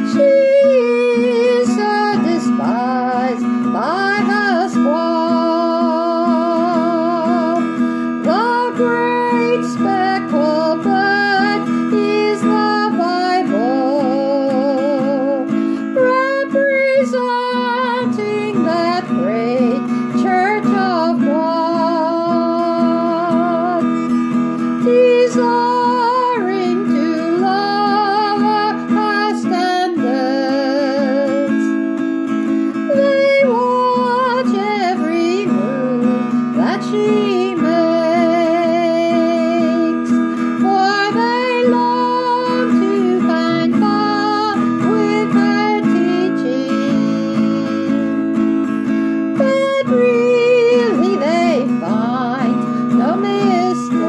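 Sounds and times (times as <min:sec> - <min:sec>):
acoustic guitar strumming: 0:00.0 - 0:54.0
woman singing with vibrato: 0:00.0 - 0:54.0.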